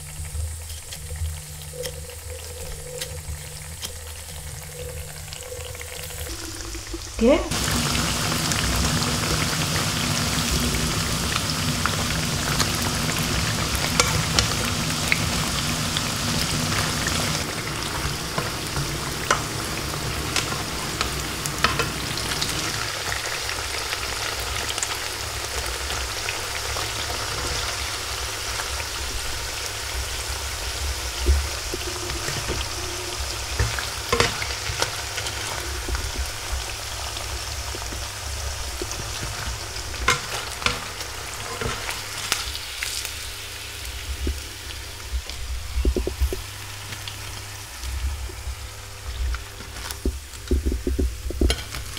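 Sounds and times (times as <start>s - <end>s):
food sizzling in hot oil: 0.0s - 51.9s.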